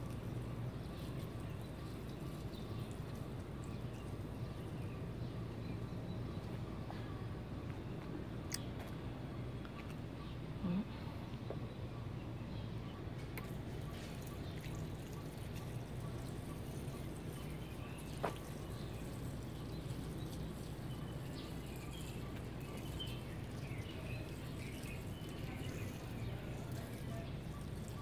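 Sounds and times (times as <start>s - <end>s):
low background hum: 0.0s - 28.0s
small birds chirping: 0.0s - 28.0s.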